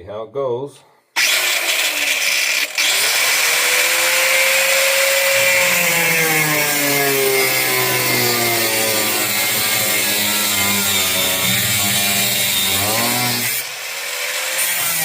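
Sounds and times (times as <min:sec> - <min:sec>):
electric grinder cutting sheet steel: 0:01.2 - 0:15.0.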